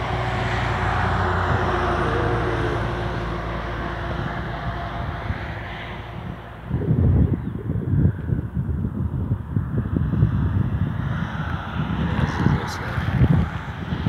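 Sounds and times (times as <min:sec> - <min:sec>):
truck passing on highway: 0:00.0 - 0:14.0
wind buffeting microphone: 0:00.0 - 0:14.0.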